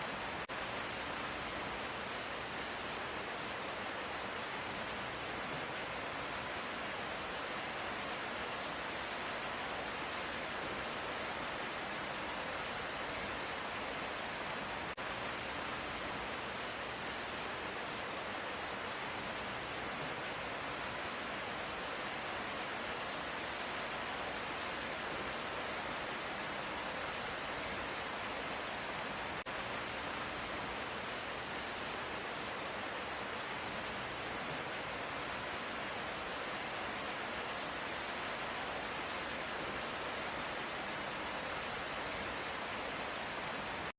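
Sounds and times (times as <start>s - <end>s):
light rain: 0.0s - 43.9s.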